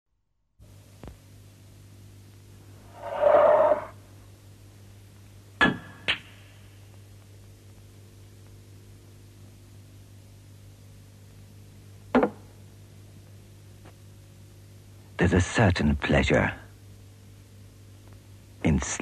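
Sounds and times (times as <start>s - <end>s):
low steady hum: 0.6s - 19.0s.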